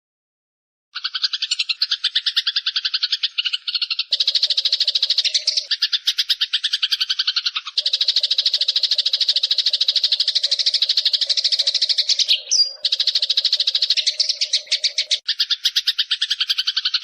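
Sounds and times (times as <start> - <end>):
sparrow chattering call: 1.0 - 17.0.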